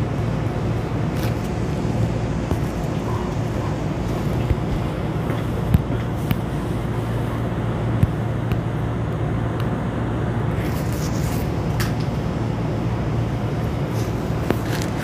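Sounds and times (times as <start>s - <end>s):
train interior hum: 0.0s - 15.0s.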